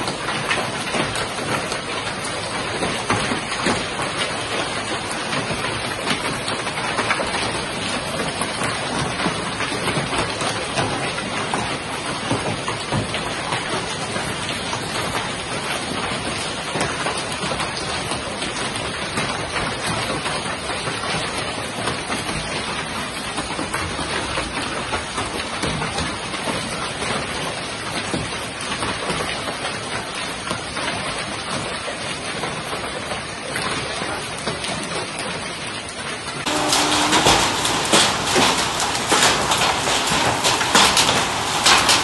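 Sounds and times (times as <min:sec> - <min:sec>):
heavy rain with hail: 0:00.0 - 0:42.0.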